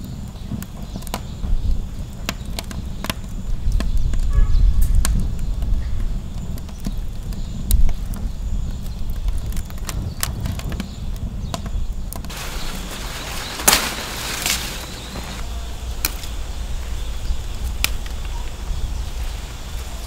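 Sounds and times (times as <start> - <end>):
fire crackling and popping: 0.0 - 20.0
low fire rumble: 0.0 - 20.0.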